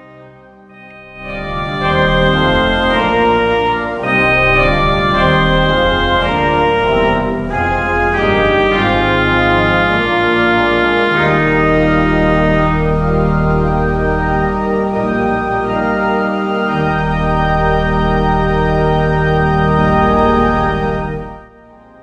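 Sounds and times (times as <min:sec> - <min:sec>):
organ chords over deep bass note: 0:00.0 - 0:22.0.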